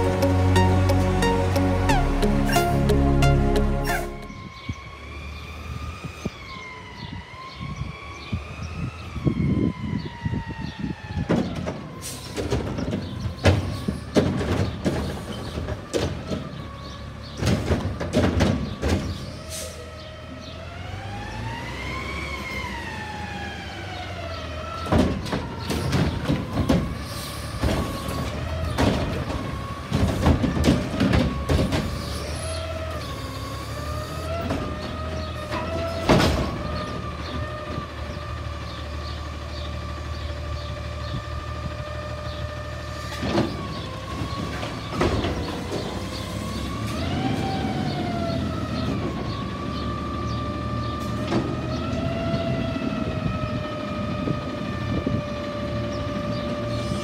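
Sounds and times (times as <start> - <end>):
truck engine and hydraulic whine: 0.0 - 7.2, 11.0 - 57.0.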